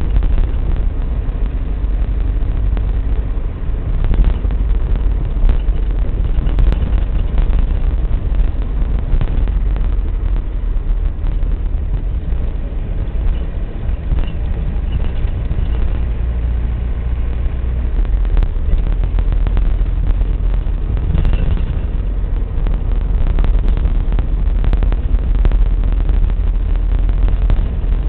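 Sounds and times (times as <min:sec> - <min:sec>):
vehicle rumble on the move: 0:00.0 - 0:28.0.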